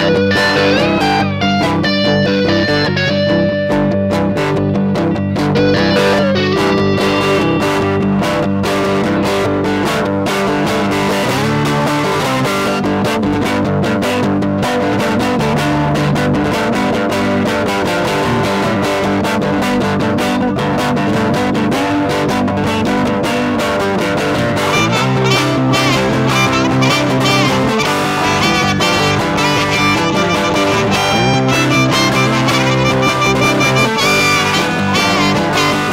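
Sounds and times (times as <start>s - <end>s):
blues electric guitar: 0.0s - 35.9s.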